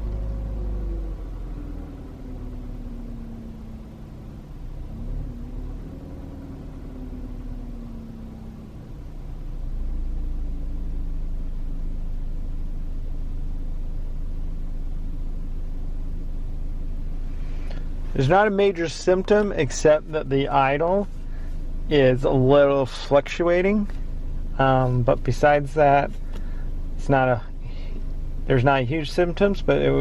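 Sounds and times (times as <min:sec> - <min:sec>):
car engine idling unevenly: 0:00.0 - 0:30.0.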